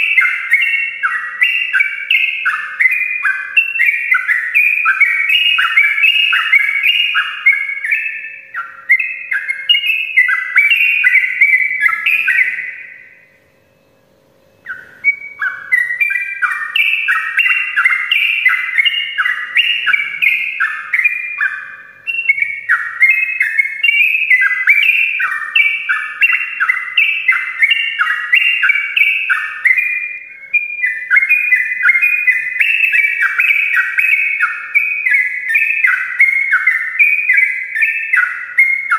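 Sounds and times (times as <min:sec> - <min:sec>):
bulbul singing chattering phrases: 0:00.0 - 0:13.2, 0:14.6 - 0:38.9.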